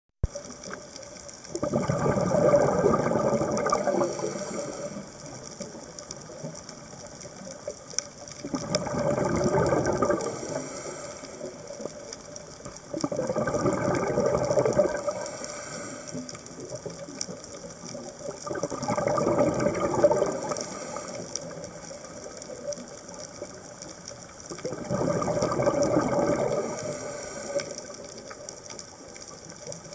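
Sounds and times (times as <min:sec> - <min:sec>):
exhaled bubbles underwater: 0:00.2 - 0:29.9.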